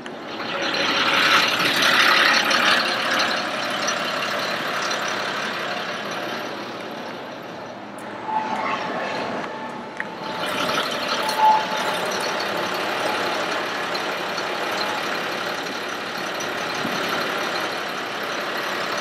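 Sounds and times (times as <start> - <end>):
truck diesel engine idling: 0.0 - 7.8, 10.2 - 19.0.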